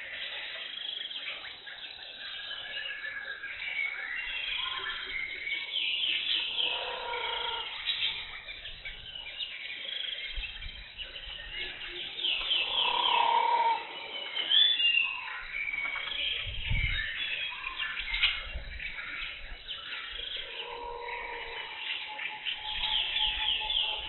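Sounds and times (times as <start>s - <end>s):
birds chirping: 0.0s - 24.0s
lower bird calls: 2.6s - 24.0s.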